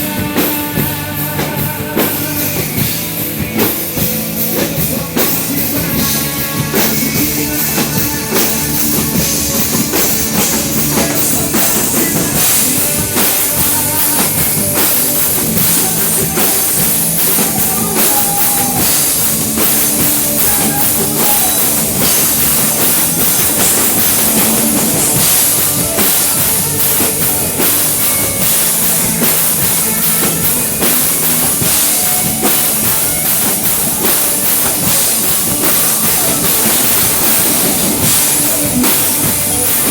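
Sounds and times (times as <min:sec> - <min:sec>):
drum kit playing: 0:00.0 - 0:39.9
rock band playing: 0:00.0 - 0:39.9.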